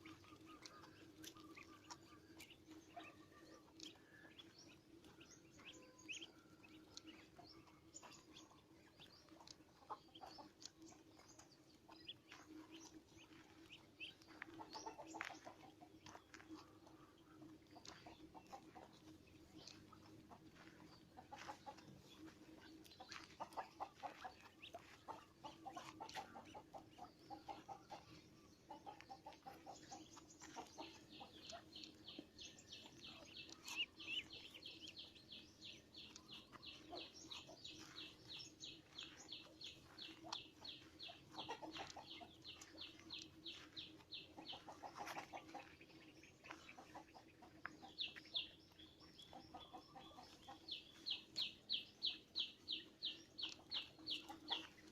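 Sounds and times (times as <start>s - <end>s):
bird clucking: 0.0s - 54.9s.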